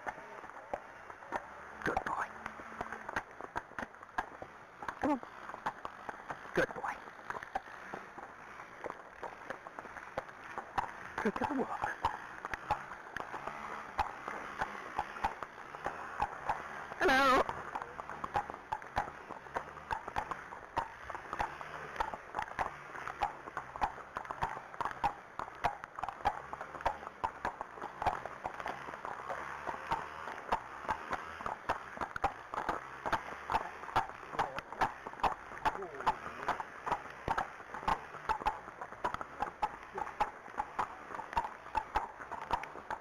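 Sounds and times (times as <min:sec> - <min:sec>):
horse hooves clip-clopping on tarmac: 0:00.0 - 0:43.0.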